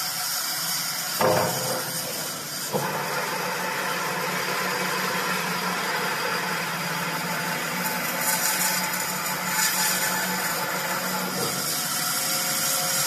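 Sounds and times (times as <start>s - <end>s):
saw machine humming and hissing: 0.0s - 13.0s.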